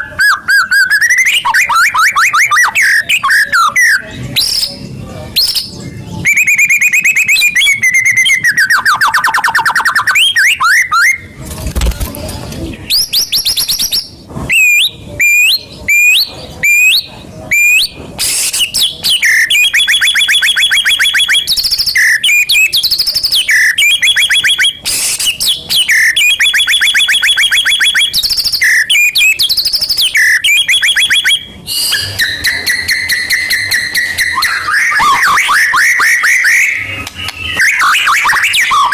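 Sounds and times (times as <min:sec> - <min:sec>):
songbird singing trills and whistles: 0:00.0 - 0:11.4, 0:12.8 - 0:38.9.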